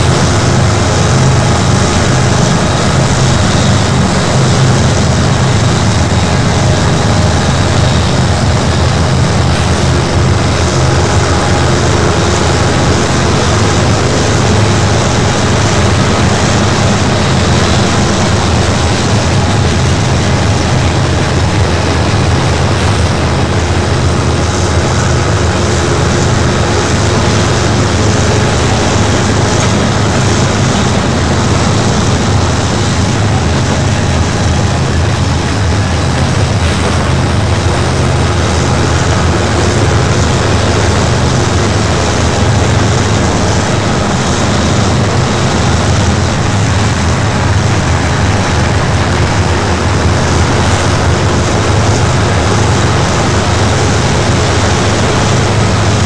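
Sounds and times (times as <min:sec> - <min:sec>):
freight train cars rumbling past: 0:00.0 - 0:56.0.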